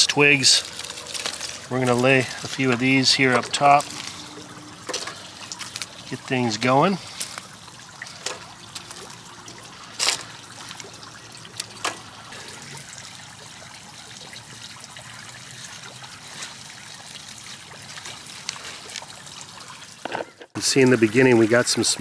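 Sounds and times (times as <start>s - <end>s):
fountain trickling: 0.0s - 22.0s.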